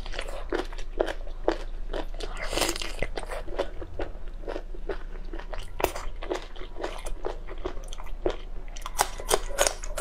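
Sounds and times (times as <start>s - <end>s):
crunchy biting and chewing: 0.0s - 10.0s.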